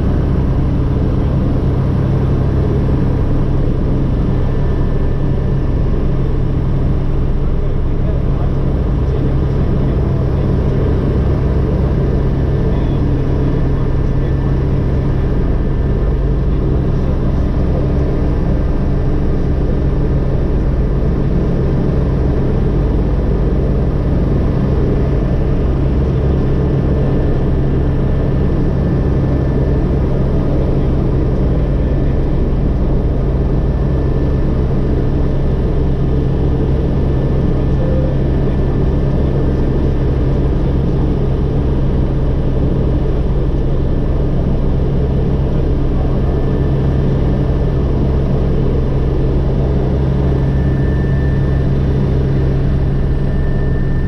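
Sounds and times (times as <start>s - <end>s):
helicopter engine whine: 0.0s - 54.0s
helicopter rotor low beat: 0.0s - 54.0s.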